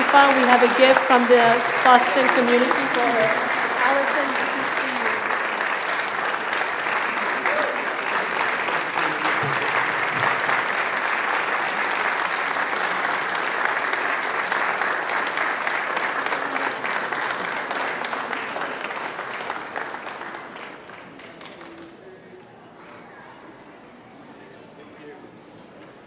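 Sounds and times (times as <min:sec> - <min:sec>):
audience applauding: 0:00.0 - 0:22.2.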